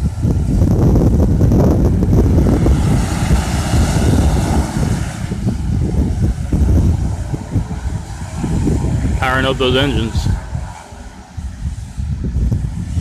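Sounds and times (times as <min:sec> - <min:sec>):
jet engines rushing: 0:00.0 - 0:13.0
wind buffeting microphone: 0:00.0 - 0:13.0.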